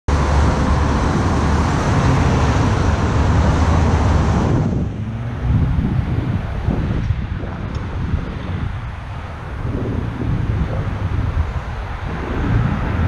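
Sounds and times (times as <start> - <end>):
passing cars roaring: 0.1 - 13.0
wind buffeting microphone: 0.1 - 13.0.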